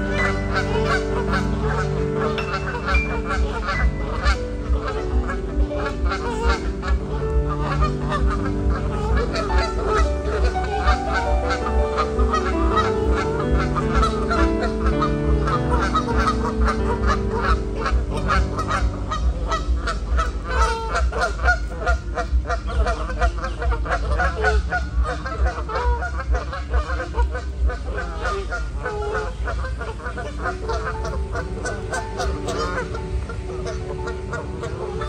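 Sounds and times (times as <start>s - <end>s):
geese honking: 0.0s - 35.0s
steady low rumble: 0.0s - 35.0s.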